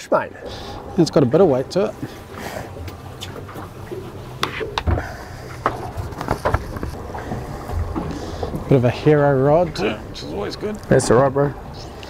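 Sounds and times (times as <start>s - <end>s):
water lapping against boat: 0.4s - 10.7s.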